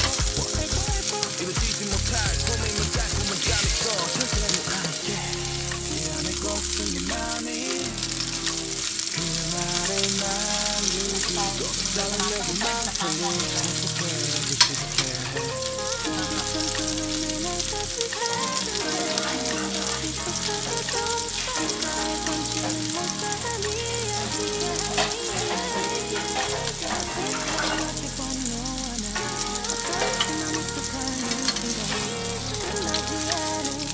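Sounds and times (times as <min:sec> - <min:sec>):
background music: 0:00.0 - 0:33.9
steak sizzling in frying pan: 0:00.0 - 0:33.9.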